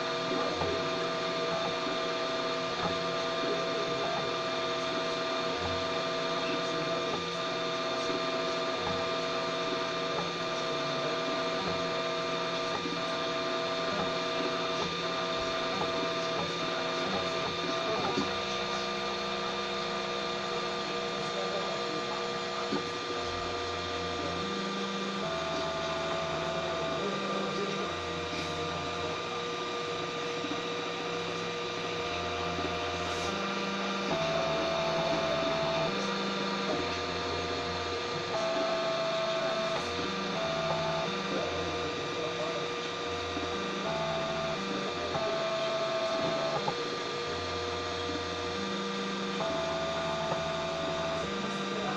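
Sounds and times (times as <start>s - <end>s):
machine hum: 0.0s - 51.9s
stepper motors whining: 0.0s - 51.9s.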